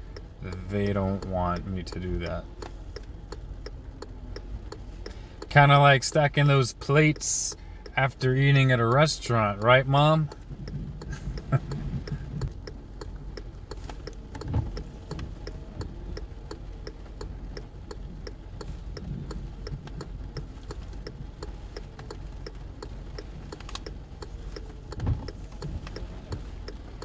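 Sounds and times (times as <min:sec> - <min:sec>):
car engine idling: 0:00.0 - 0:27.0
turn signal clicking: 0:00.0 - 0:27.0.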